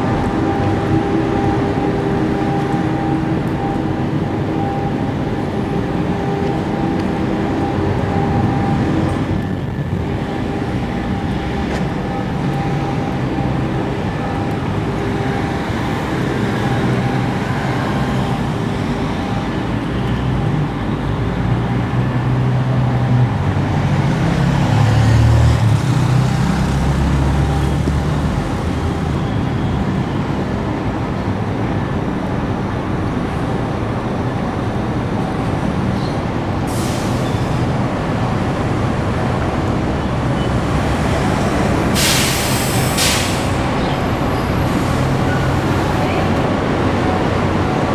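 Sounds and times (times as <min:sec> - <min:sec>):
roadside traffic noise: 0:00.0 - 0:47.9.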